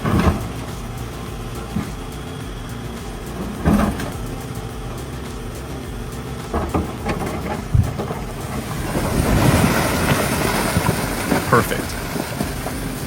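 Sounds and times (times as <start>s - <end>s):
diesel engine running: 0.0s - 13.0s
heavy clunks: 0.0s - 13.0s.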